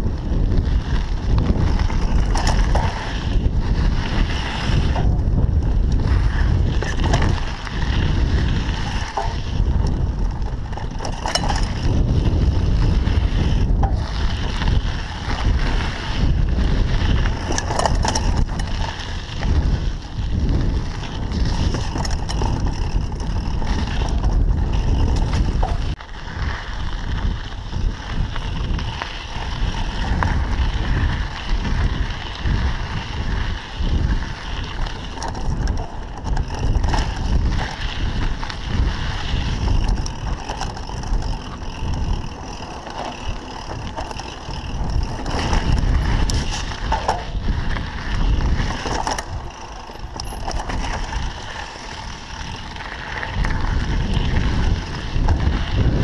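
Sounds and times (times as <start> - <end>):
bike rattling over bumps: 0.0 - 56.0
bike tyres rolling over dirt: 0.0 - 56.0
wind rumbling on microphone: 0.0 - 56.0.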